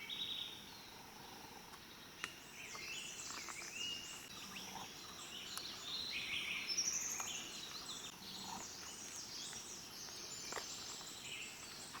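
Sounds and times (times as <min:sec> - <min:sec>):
birds chirping and singing: 0:01.9 - 0:12.0.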